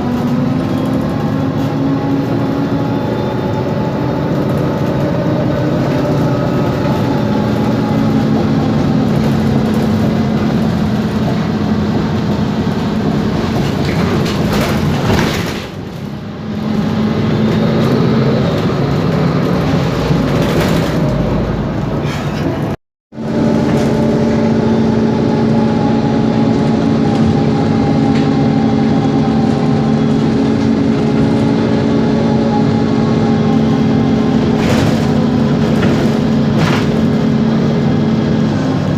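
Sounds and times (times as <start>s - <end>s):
bus diesel engine drone: 0.0s - 38.9s.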